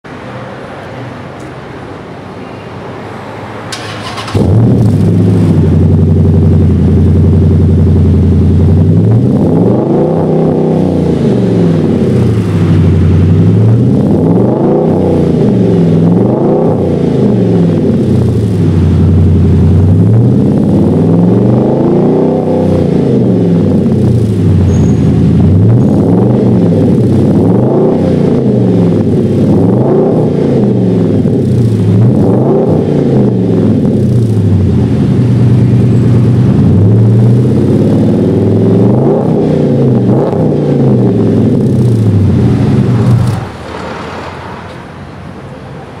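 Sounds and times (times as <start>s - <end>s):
car engine starting and idling: 3.6s - 46.0s
engine revving: 3.8s - 44.6s.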